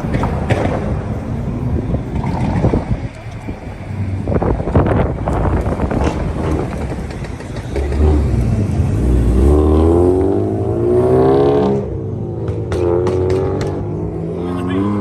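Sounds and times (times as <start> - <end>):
car engine revving: 0.0 - 15.0
engine crackles: 0.0 - 15.0.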